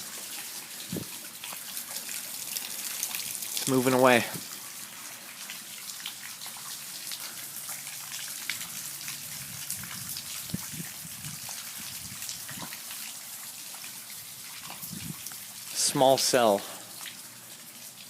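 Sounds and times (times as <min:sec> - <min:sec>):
heavy drips landing: 0:00.0 - 0:18.0
rain falling: 0:00.0 - 0:18.0.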